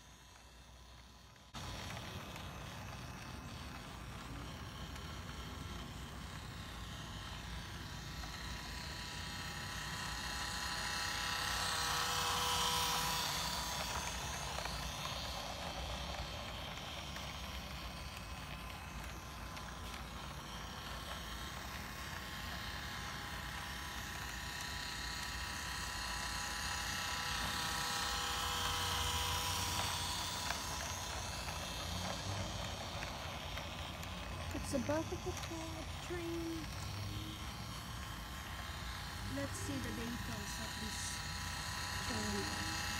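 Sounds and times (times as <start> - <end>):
small electric motor whining: 0.0 - 42.9.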